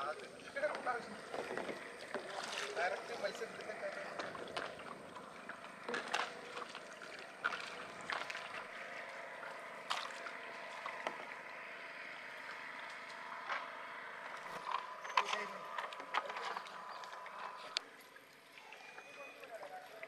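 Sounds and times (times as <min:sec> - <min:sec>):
water trickling and splashing: 0:00.0 - 0:20.0
small knocks and drips: 0:00.4 - 0:20.0.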